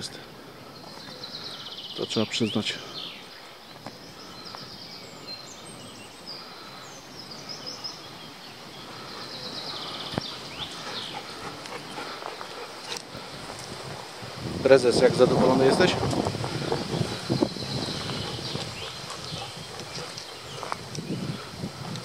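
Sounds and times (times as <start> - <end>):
small songbirds singing: 0.0 - 22.0
steady outdoor hiss: 0.0 - 22.0.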